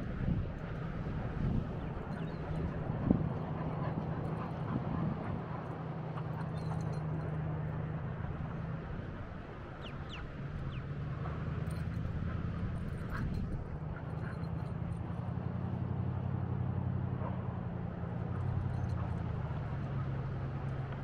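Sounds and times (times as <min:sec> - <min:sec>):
beach wind: 0:00.0 - 0:21.0
low engine hum: 0:00.0 - 0:21.0.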